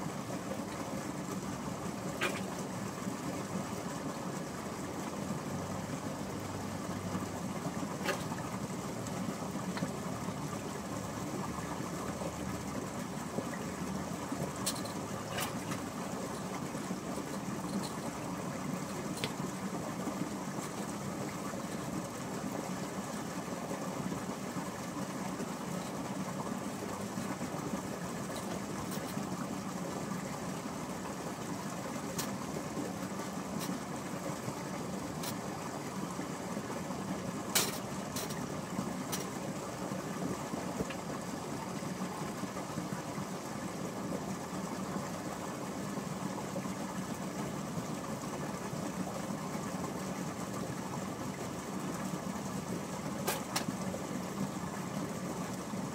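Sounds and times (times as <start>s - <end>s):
steady motor hum: 0.0s - 55.9s.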